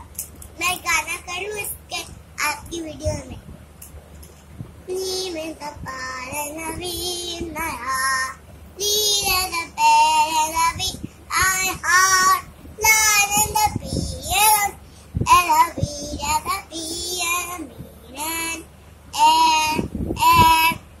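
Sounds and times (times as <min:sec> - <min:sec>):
young child singing: 0:00.0 - 0:03.4, 0:04.9 - 0:20.9.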